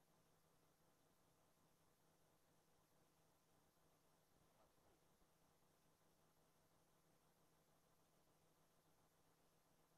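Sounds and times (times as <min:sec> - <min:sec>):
low steady hum: 0:00.0 - 0:09.9.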